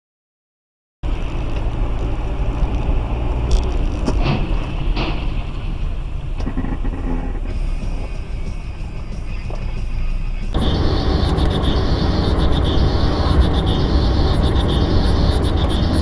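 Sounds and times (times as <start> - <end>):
car engine and tyres on wet road: 1.1 - 16.0.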